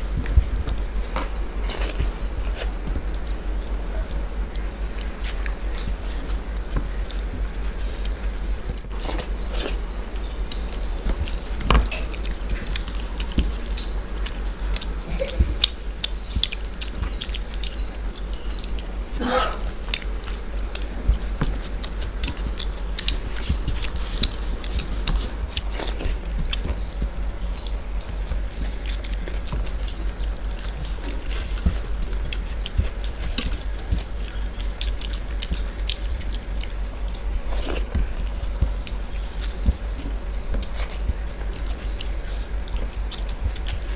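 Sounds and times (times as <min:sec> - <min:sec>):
chewing and mouth sounds: 0:00.0 - 0:43.9
fingers mixing food on steel plates: 0:00.0 - 0:43.9
steady low hum: 0:00.0 - 0:43.9.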